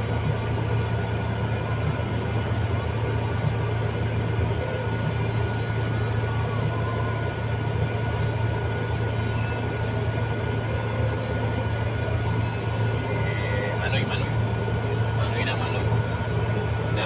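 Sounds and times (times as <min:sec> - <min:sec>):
diesel engine low hum: 0:00.0 - 0:17.0.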